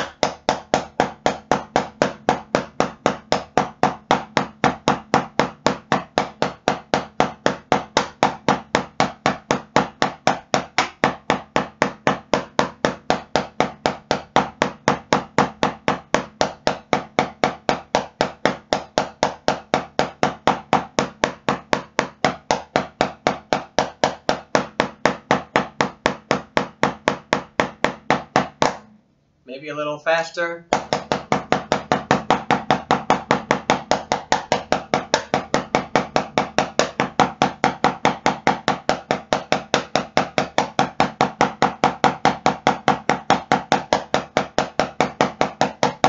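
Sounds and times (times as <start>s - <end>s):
drumsticks striking practice pad: 0.0s - 28.9s, 30.7s - 46.0s.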